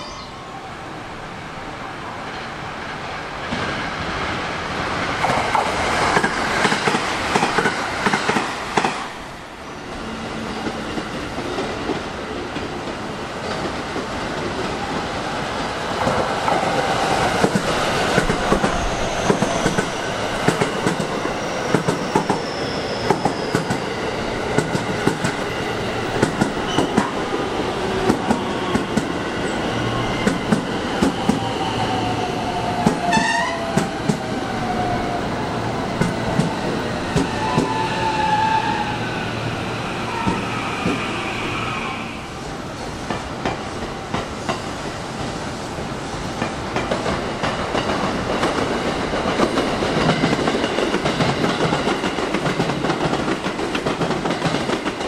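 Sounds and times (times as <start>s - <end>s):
electric trains running: 2.7s - 55.0s.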